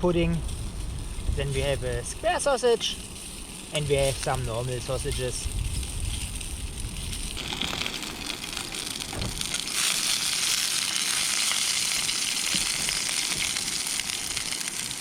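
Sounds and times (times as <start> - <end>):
sausages sizzling in a pan: 0.0 - 15.0.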